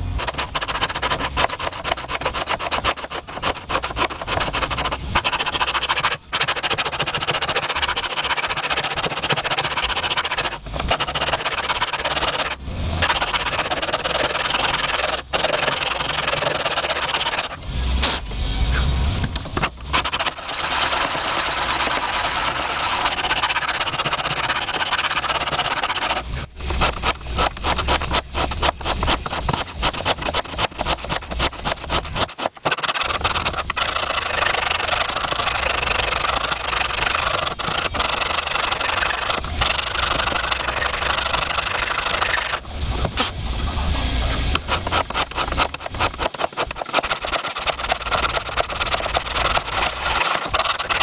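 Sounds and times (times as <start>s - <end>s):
tool rasping on steel: 0.0s - 17.6s, 19.6s - 42.6s, 44.5s - 51.0s.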